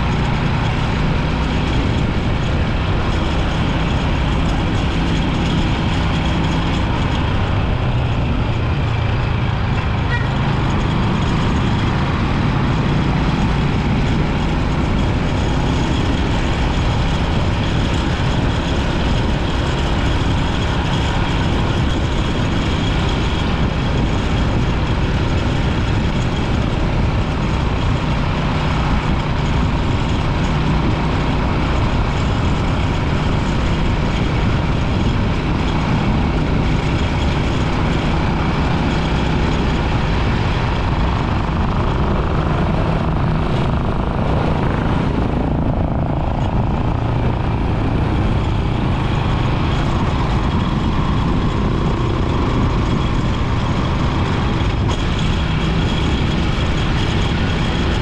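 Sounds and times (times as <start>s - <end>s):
motorbike engine hum: 0.0s - 58.0s
wind rushing on microphone: 0.0s - 58.0s.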